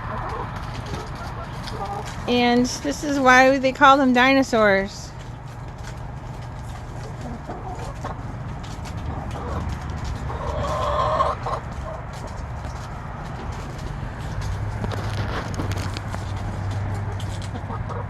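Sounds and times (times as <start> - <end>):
drawn-out hen call: 0.0 - 18.0
hens clucking: 0.0 - 18.0.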